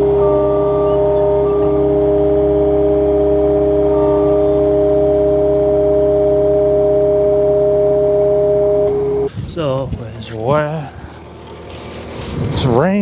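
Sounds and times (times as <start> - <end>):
engine droning whine: 0.0 - 9.3, 10.6 - 13.0.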